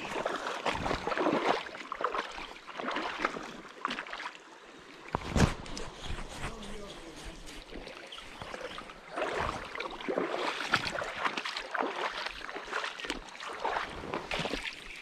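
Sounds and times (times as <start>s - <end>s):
splashing and rustling in water: 0.0s - 15.0s
stream water flowing: 0.0s - 15.0s.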